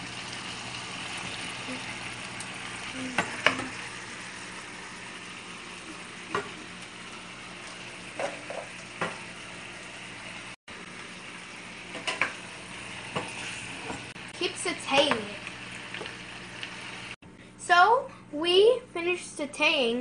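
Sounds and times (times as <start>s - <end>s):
food sizzling in a frying pan: 0.0s - 17.2s.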